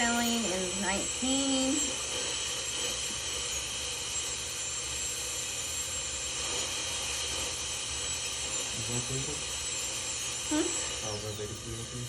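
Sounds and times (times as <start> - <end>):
dental drill whining: 0.0 - 12.0.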